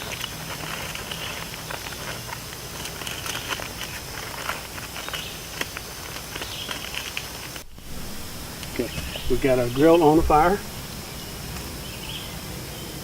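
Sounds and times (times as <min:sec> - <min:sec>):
aluminium foil crinkling: 0:00.0 - 0:12.4.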